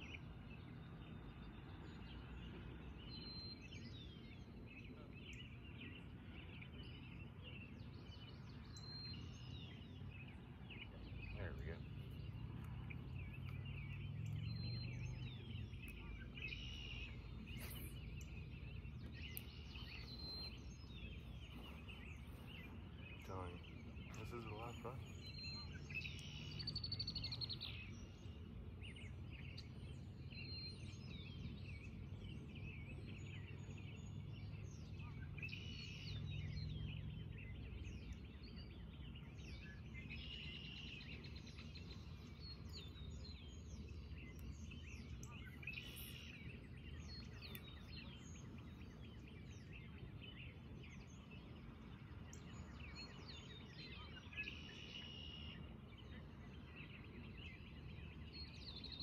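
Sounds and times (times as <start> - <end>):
birds chirping: 0.0 - 59.0
low background rumble: 0.0 - 59.0.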